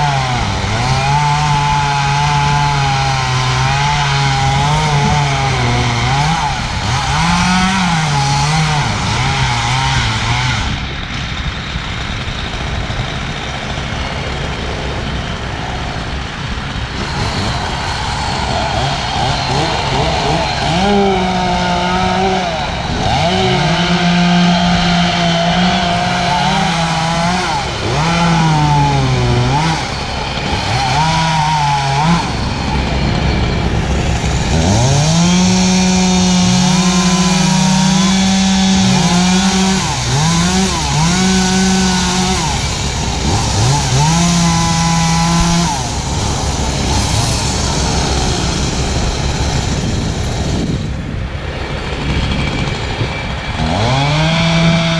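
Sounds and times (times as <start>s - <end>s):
chainsaw revving while cutting: 0.0s - 11.2s, 11.9s - 51.0s, 51.8s - 54.9s.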